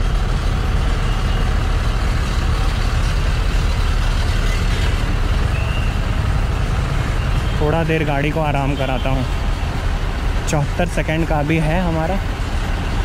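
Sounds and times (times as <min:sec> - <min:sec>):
diesel truck engine: 0:00.0 - 0:13.0.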